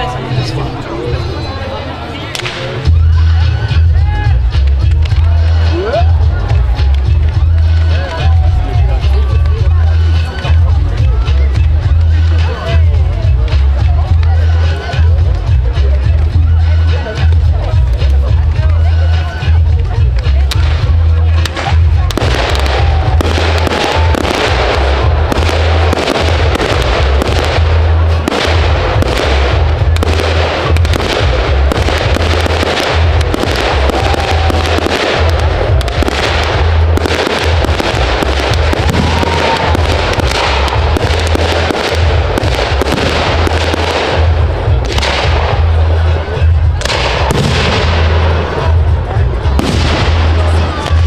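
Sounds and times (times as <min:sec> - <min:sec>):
fireworks bangs and crackles: 0:00.0 - 0:51.0
deep rumble: 0:02.9 - 0:51.0.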